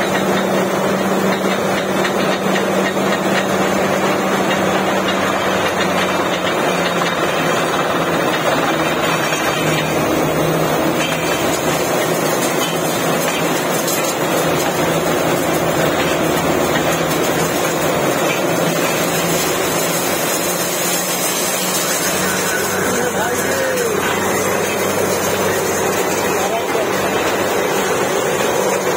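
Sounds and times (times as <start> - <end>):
drilling rig engine running: 0.0 - 28.9.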